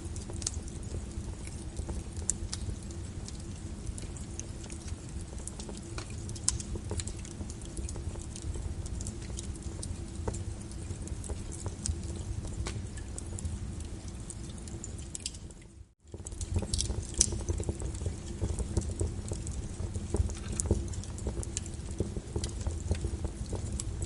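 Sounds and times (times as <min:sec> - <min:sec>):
rumble of flames: 0:00.0 - 0:24.0
wood fire crackling: 0:00.0 - 0:24.0.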